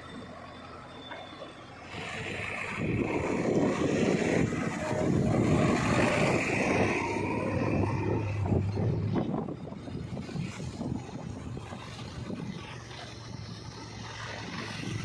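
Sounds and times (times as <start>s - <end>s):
diesel engine running: 0.0s - 15.0s
tyres rolling on tarmac: 0.0s - 15.0s.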